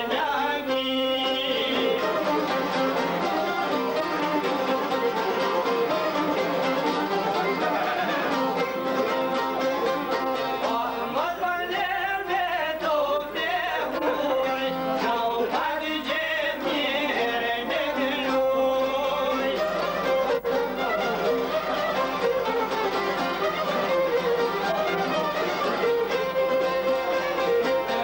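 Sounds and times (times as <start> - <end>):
fiddle melody: 0.0 - 11.7, 13.7 - 28.0
strummed lutes: 0.0 - 28.0.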